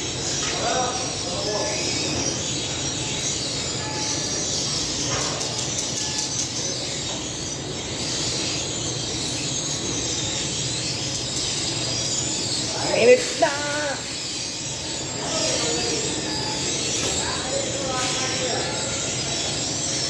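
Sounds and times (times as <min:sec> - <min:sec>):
oven machinery hum and hiss: 0:00.0 - 0:20.0.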